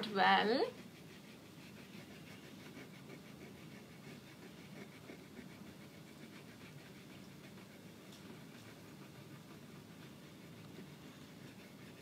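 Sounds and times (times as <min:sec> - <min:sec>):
fingertip rubbing pastel on paper: 0:00.1 - 0:12.0.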